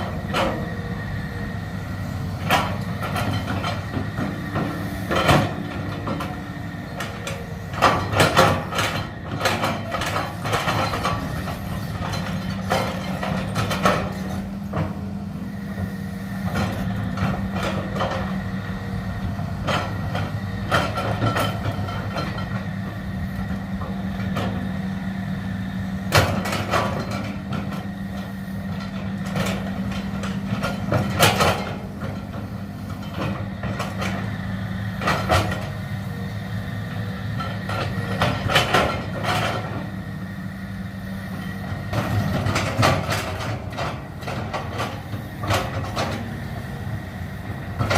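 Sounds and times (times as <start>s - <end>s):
excavator engine humming: 0.0s - 47.9s.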